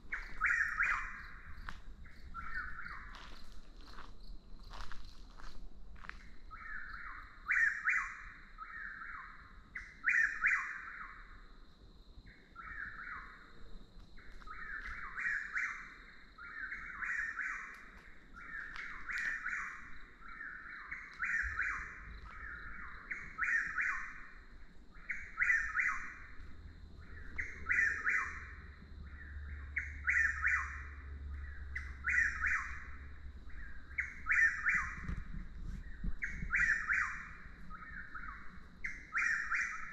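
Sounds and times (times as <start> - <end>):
nightjar singing repeated call: 0.0 - 4.0, 6.5 - 11.4, 14.2 - 39.9.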